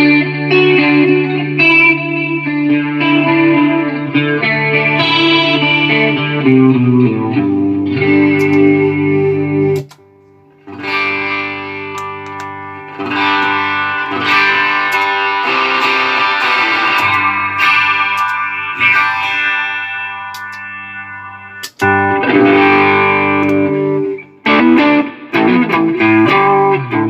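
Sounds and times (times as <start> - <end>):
electric guitar chords with effects: 0.0 - 27.0.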